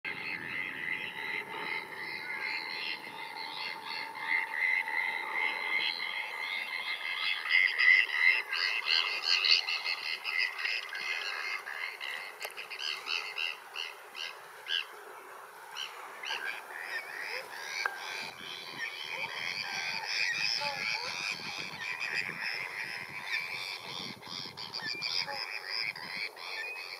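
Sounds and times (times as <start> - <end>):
flock of gulls calling: 0.1 - 26.9.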